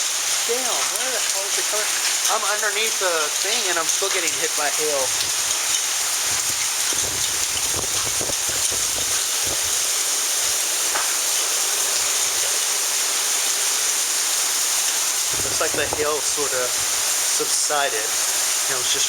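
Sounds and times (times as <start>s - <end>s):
hailstones clattering: 0.0s - 19.0s
heavy rain pouring: 0.0s - 19.0s.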